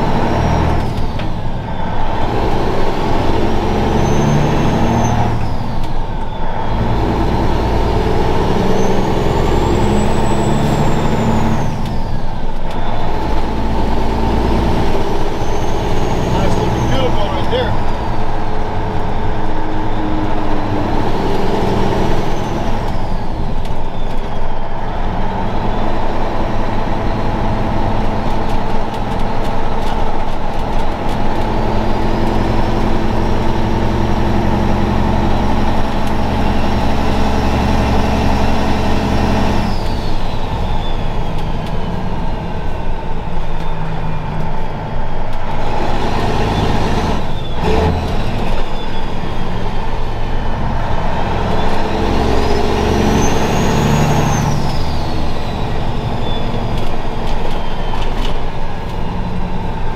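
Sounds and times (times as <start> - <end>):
diesel truck engine pulling hard: 0.0 - 59.9.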